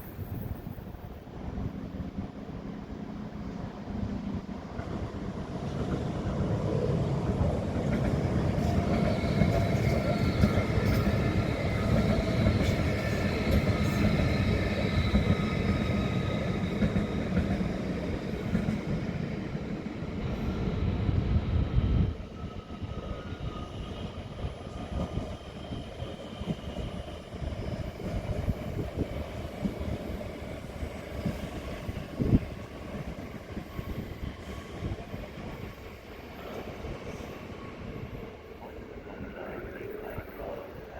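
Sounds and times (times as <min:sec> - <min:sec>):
quiet rail background: 0:00.0 - 0:40.9
train wheels rumbling on rail: 0:00.0 - 0:40.9.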